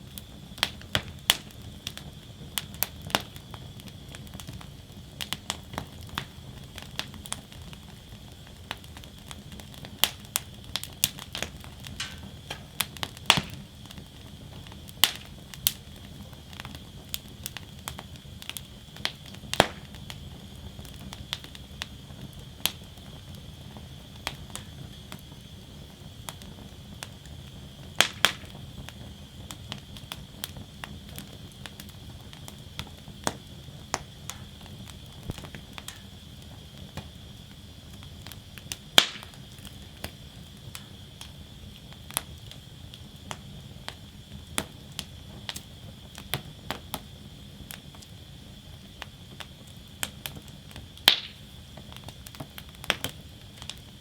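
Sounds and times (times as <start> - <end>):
low noise of flames: 0.0 - 54.0
wood fire crackling and popping: 0.0 - 54.0.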